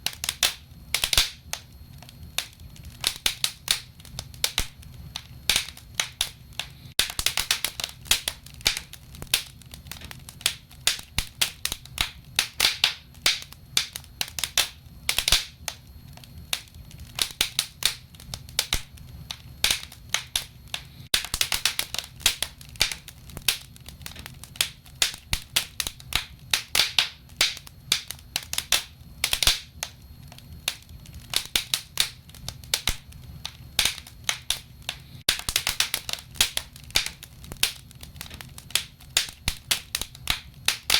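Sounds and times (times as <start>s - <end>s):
logs crackling and popping: 0.0s - 40.9s
low rumble of flames: 0.0s - 40.9s.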